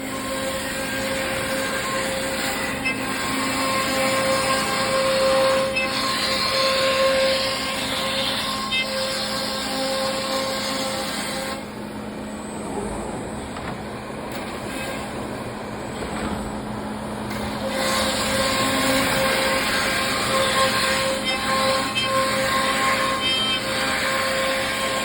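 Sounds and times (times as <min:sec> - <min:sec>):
cnc router cutting plywood: 0:00.0 - 0:25.0.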